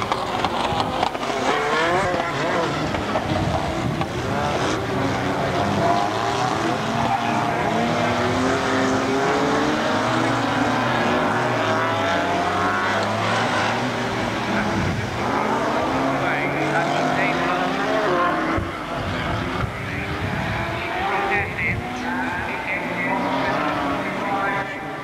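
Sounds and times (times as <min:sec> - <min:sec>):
racing cars revving past: 0:00.0 - 0:25.0.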